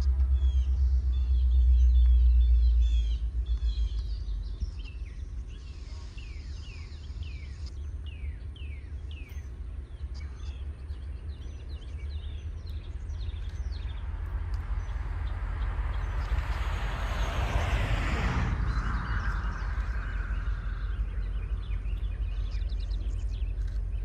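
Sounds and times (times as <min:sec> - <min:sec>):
birds chirping: 0:00.0 - 0:24.0
low rumble: 0:00.0 - 0:24.0.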